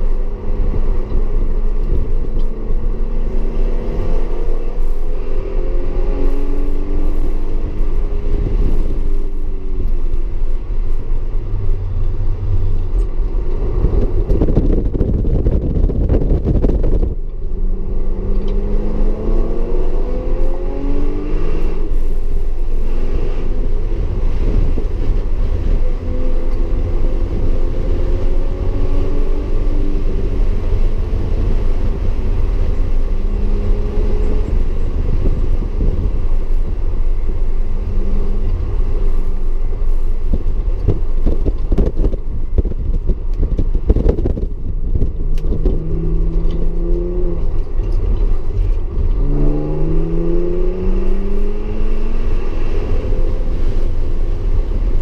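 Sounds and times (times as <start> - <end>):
car engine accelerating: 0.0 - 55.0
tyre and road noise: 0.0 - 55.0.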